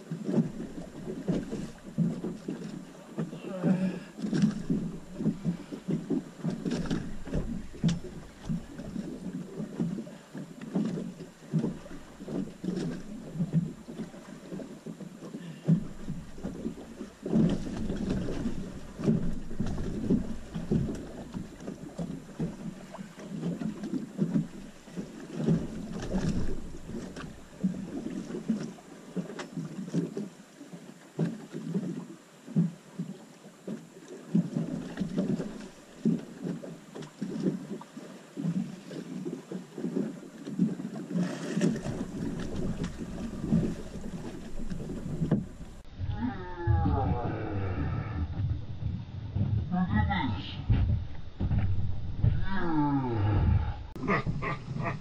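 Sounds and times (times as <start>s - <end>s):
waves splashing against boat hull: 0.0s - 55.0s.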